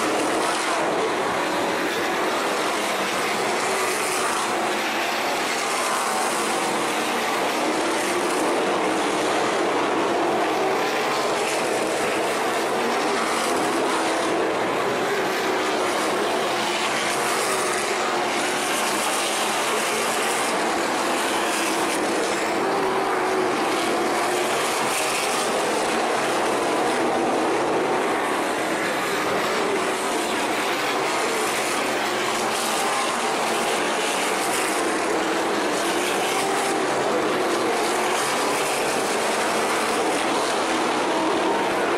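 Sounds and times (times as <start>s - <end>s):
racing car engines: 0.0s - 41.9s.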